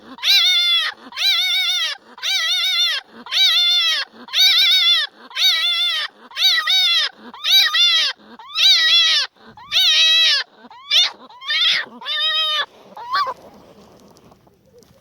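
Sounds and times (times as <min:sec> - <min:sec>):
animal calling: 0:00.0 - 0:15.0.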